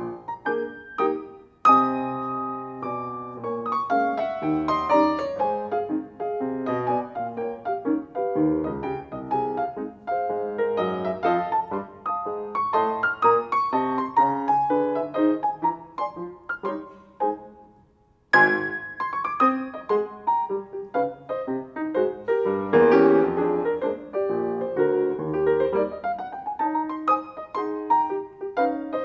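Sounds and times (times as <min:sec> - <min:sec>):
piano playing ragtime: 0:00.0 - 0:29.0.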